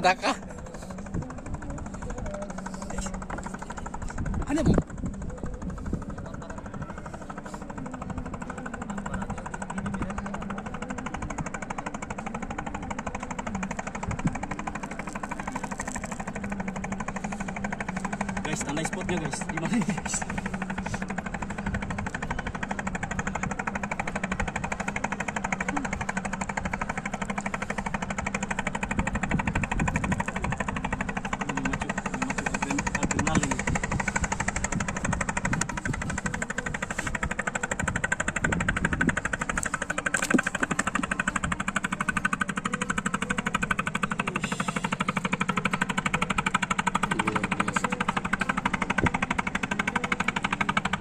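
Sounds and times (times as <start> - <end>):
small engine chugging: 0.0 - 51.0.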